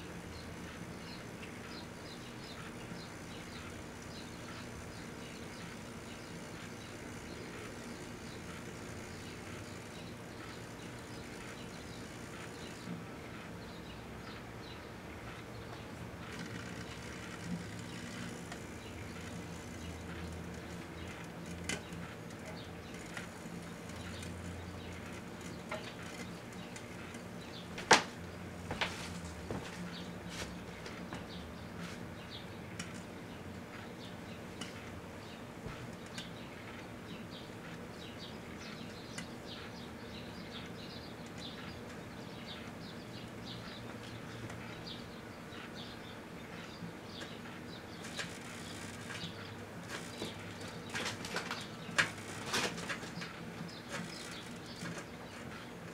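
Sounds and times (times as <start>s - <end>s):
microwave oven humming: 0.0s - 55.9s.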